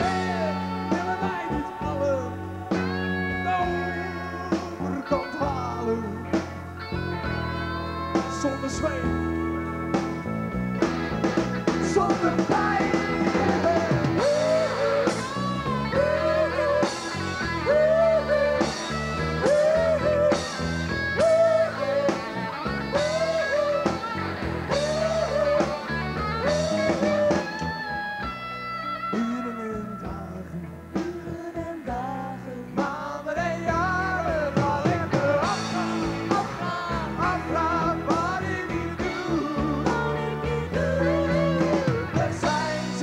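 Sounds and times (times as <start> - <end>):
rock band playing: 0.0 - 43.0.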